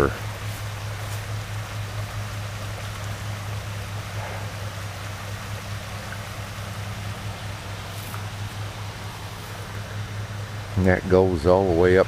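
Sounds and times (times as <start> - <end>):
steady low hum: 0.0 - 12.0
stream water rushing over rocks: 0.0 - 12.0.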